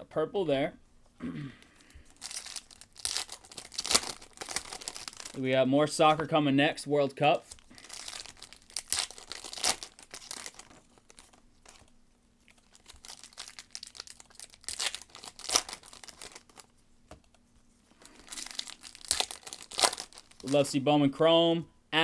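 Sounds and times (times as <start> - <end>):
card wrappers crinkling and tearing: 1.8 - 6.2, 7.4 - 20.8.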